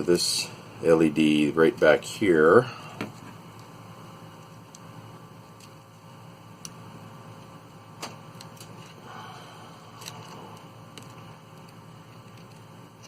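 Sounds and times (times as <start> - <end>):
low steady background hum: 0.0 - 13.0.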